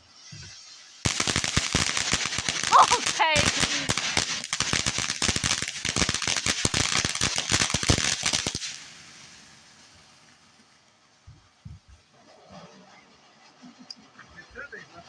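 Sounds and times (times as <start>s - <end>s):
fireworks crackling bangs: 0.0s - 12.3s
fireworks hiss: 0.0s - 14.5s.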